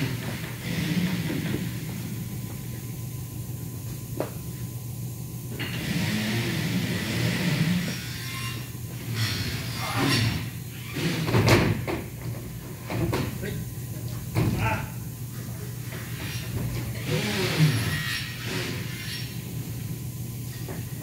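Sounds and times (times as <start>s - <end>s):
low workshop hum: 0.0s - 21.0s.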